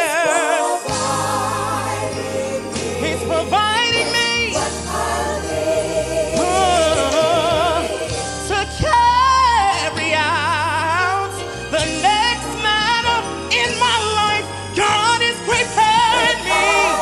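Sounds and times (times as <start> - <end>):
man singing gospel: 0.0 - 1.0, 2.1 - 17.0
live band accompaniment: 0.0 - 17.0.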